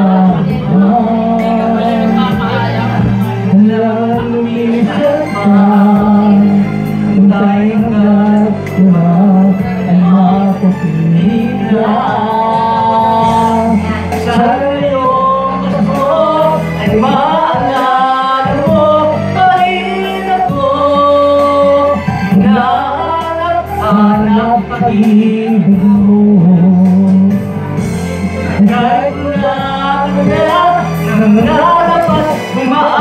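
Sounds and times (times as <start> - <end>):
backing music: 0.0 - 33.0
man singing into microphone: 0.0 - 33.0.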